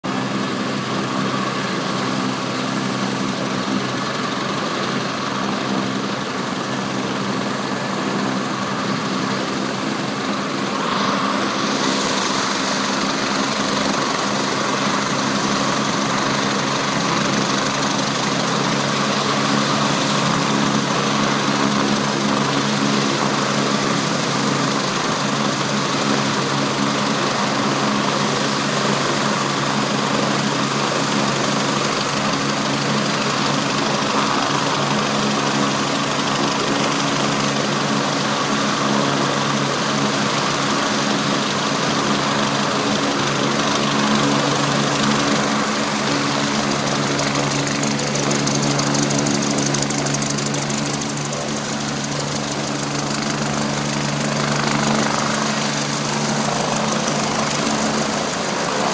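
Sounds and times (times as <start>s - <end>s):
helicopter engine hum: 0.0s - 58.9s.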